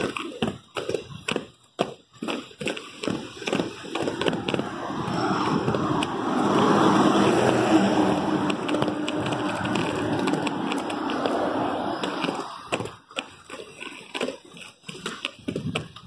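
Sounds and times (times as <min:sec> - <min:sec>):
skate wheel scrapes and clicks: 0:00.0 - 0:16.0
skate wheels rumbling on concrete: 0:00.0 - 0:16.0.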